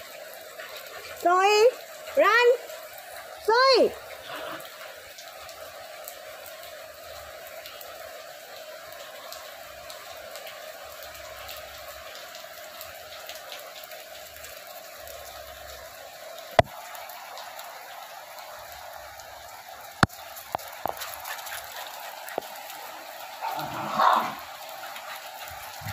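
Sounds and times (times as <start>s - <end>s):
rain on paved rooftop: 0.0s - 25.9s.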